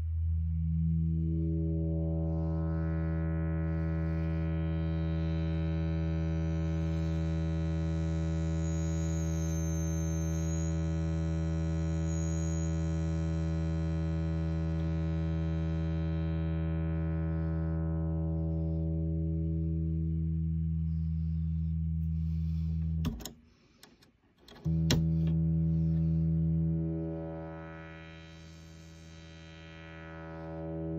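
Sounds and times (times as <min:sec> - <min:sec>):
filtered synthesizer tone: 0:00.0 - 0:23.8, 0:24.5 - 0:30.9.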